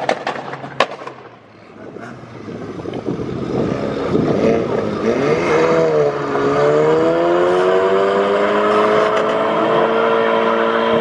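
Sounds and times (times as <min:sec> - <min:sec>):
car engine accelerating: 0:01.8 - 0:11.0.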